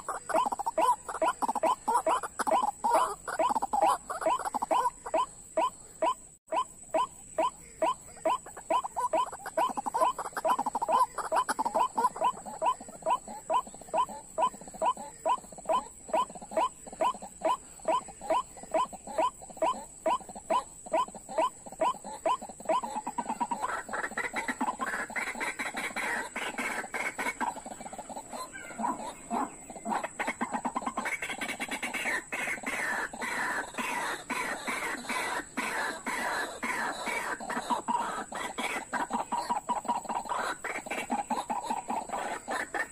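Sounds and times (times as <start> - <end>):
harsh croaking bird calls: 0.0 - 42.9.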